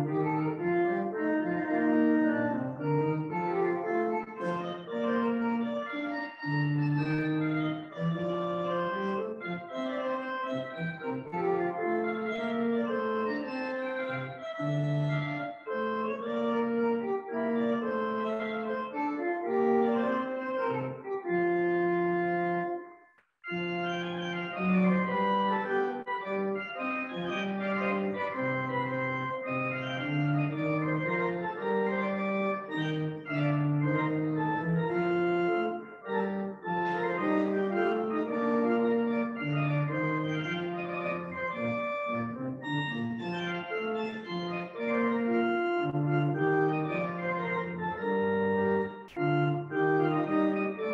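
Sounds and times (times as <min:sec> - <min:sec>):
pipe organ chords: 0:00.0 - 0:50.9.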